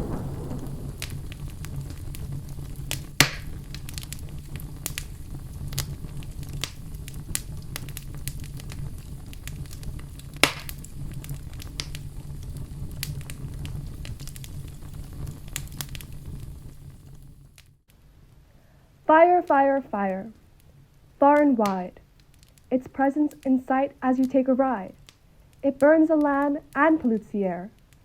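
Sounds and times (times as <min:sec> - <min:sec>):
fire crackling and popping: 0:00.0 - 0:28.0
low steady rumble: 0:00.0 - 0:28.0.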